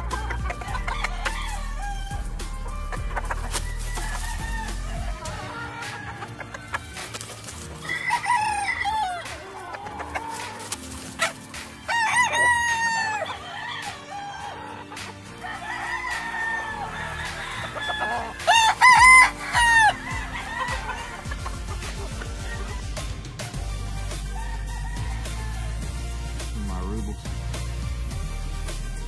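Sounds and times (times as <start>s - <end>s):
roosters crowing: 0.0s - 26.5s.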